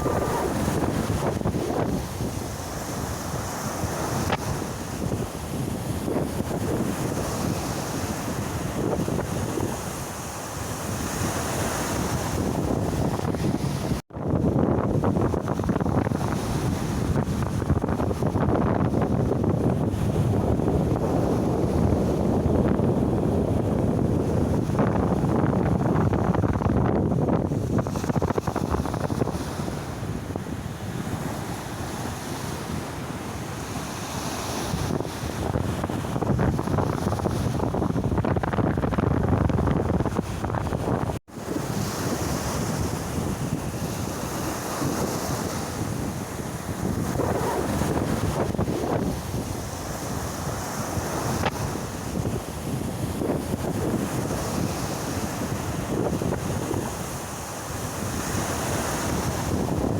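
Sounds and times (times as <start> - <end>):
surf washing in and out: 0.0 - 59.9
wind buffeting microphone: 0.0 - 59.9.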